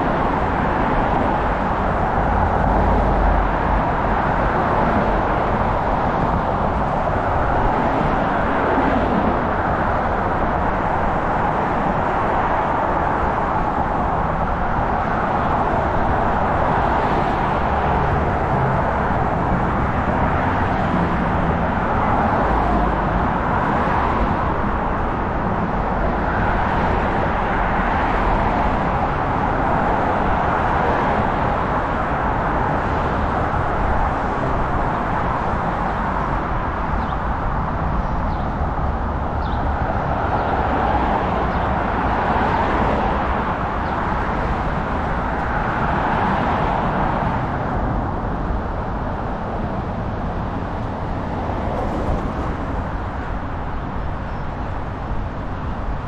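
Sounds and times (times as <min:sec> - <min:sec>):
road traffic passing: 0:00.0 - 0:56.0.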